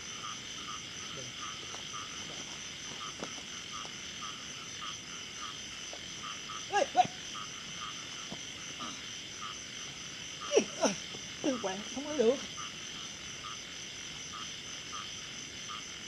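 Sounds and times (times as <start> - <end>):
frogs croaking: 0.0 - 16.0.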